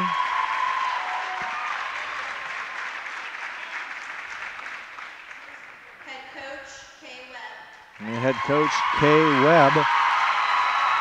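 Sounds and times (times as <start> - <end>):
crowd applauding: 0.0 - 6.1, 8.0 - 11.0.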